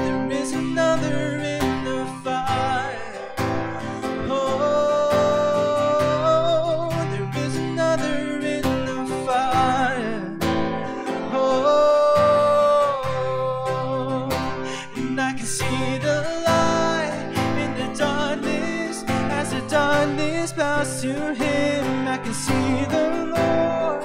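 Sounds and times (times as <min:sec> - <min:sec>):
person singing wordless melody: 0:00.0 - 0:24.0
strummed acoustic guitar: 0:00.0 - 0:24.0.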